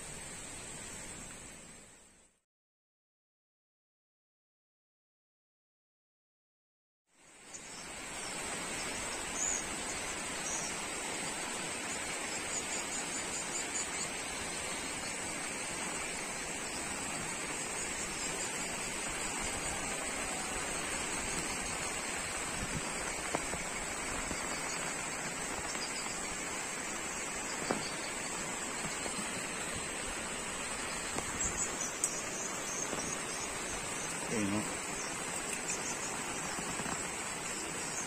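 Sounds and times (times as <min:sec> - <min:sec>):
river water rushing: 0:07.3 - 0:38.0.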